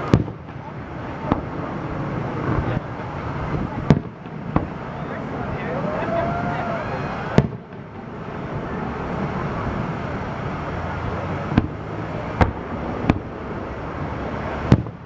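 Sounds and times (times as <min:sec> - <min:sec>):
fireworks bursting: 0:00.0 - 0:15.0
steady background noise: 0:00.0 - 0:15.0.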